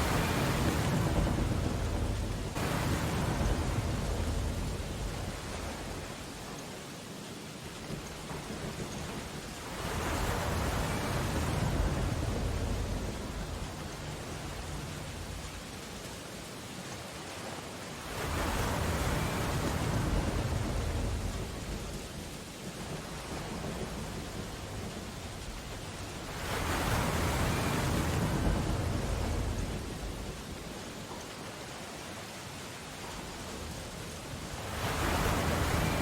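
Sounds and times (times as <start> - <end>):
rain against window glass: 0.0 - 36.0
rushing swells of storm noise: 0.0 - 36.0.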